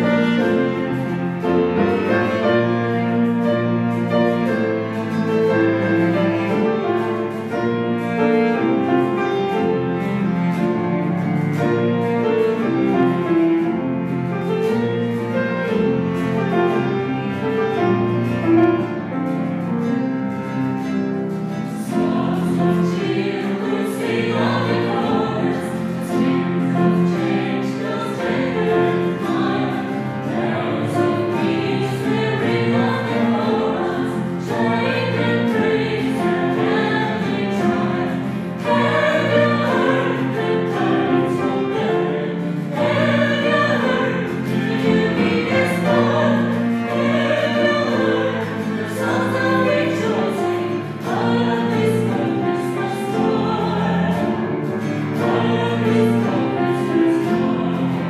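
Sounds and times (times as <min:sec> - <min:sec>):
vocal ensemble singing: 0:00.0 - 0:18.9, 0:21.5 - 0:58.0
instrumental accompaniment: 0:00.0 - 0:58.0.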